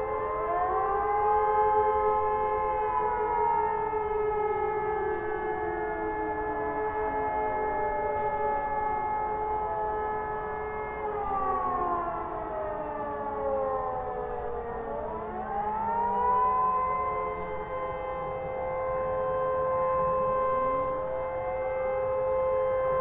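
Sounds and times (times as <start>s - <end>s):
distant civil defence sirens: 0.0s - 23.0s.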